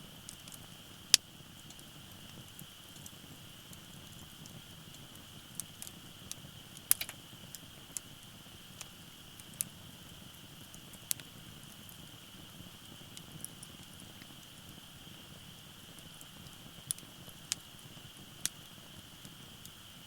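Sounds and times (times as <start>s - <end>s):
fire pops and snaps: 0.0s - 20.0s
wood fire crackling: 0.0s - 20.0s.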